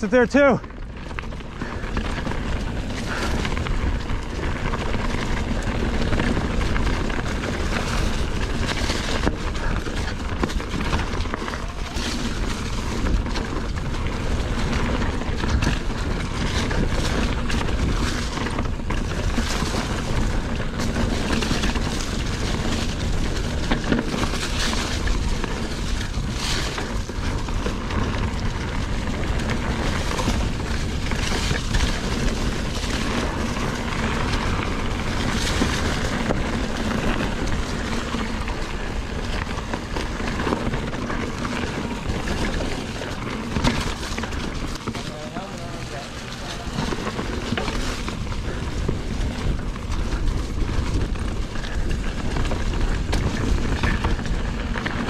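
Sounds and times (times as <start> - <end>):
bike knocking and rattling: 0.0 - 55.0
tyres rolling over dirt and rock: 0.0 - 55.0.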